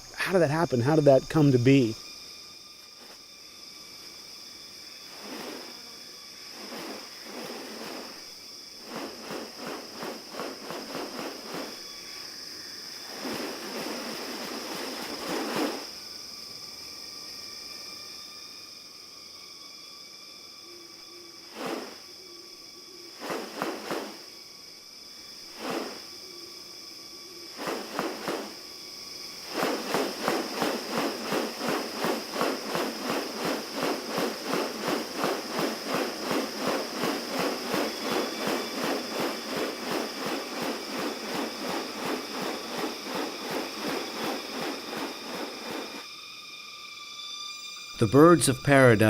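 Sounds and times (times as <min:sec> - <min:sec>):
insect chirps: 0:00.0 - 0:49.0
insect fast pulsing: 0:00.0 - 0:49.0
insects high-pitched whine: 0:00.0 - 0:49.0.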